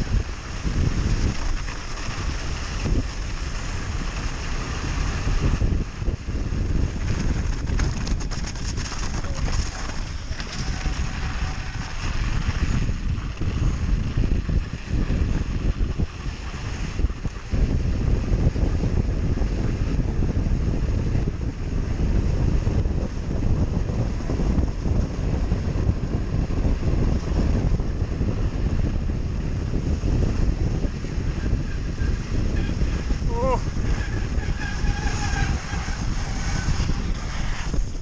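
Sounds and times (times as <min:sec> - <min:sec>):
bike rattling over rough ground: 0:00.0 - 0:38.0
bike rolling rumble: 0:00.0 - 0:38.0
wind buffeting microphone: 0:00.0 - 0:38.0.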